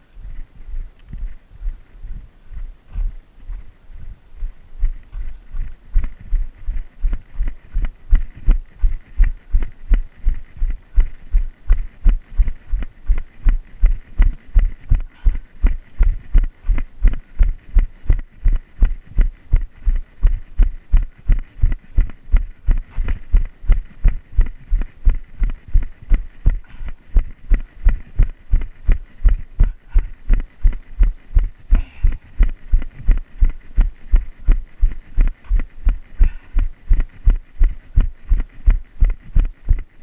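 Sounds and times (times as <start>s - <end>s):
running footsteps thudding: 0.2s - 39.9s.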